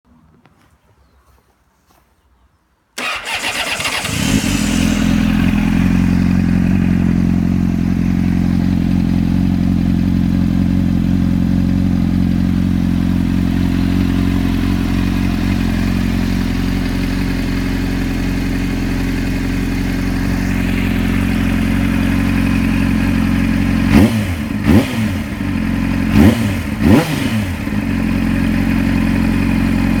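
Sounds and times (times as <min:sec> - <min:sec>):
motorcycle engine idling: 0:03.0 - 0:30.0
motorcycle engine revving: 0:03.0 - 0:30.0.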